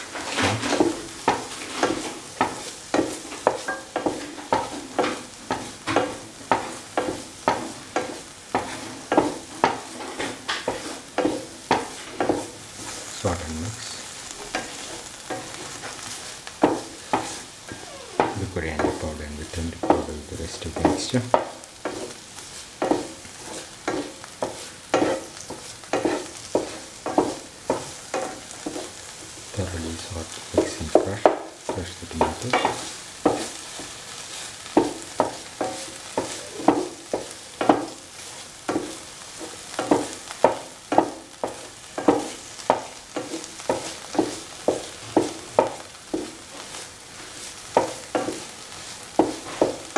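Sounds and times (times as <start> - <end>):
oil sizzling: 0.0 - 49.9
spatula scraping pan: 0.0 - 49.9.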